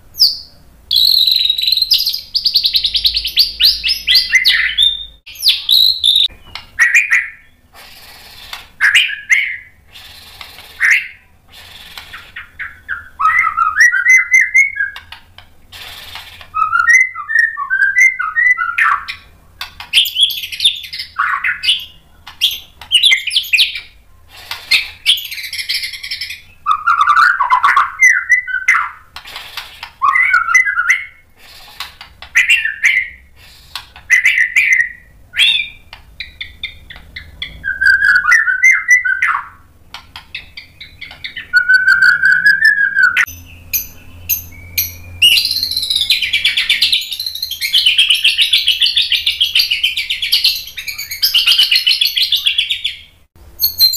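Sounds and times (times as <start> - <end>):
bird singing varied song: 0.1 - 29.2, 29.8 - 31.3, 32.2 - 53.9.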